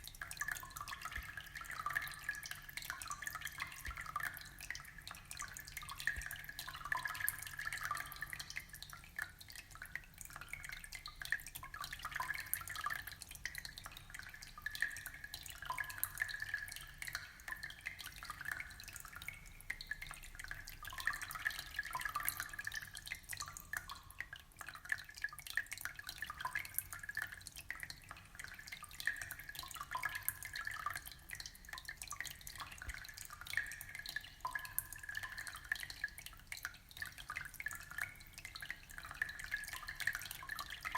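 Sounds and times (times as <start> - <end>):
aquarium water bubbling: 0.0 - 40.9
water dripping: 0.0 - 40.9.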